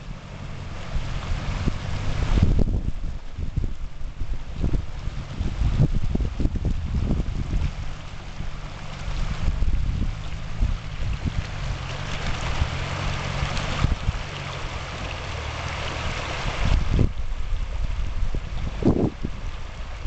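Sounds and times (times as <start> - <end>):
engine droning: 0.0 - 20.0
river water rushing: 0.0 - 20.0
wind buffeting microphone: 0.0 - 20.0.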